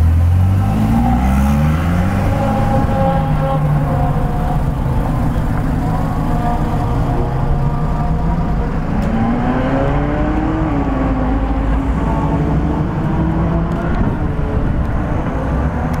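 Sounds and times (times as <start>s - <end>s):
car engine at low speed: 0.0s - 16.0s.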